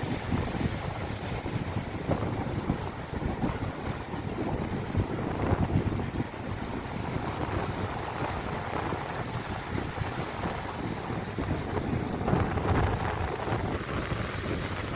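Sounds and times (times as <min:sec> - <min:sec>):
sea waves washing on shore: 0:00.0 - 0:14.9
wind buffeting microphone: 0:00.0 - 0:14.9.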